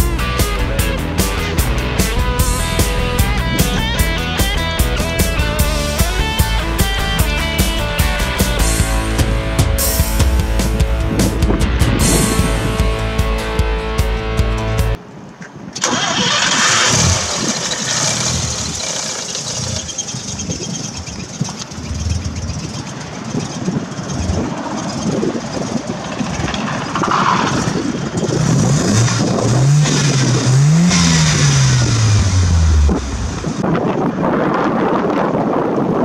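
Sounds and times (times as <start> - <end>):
rotary engine revving: 0.0 - 13.5, 15.8 - 33.6.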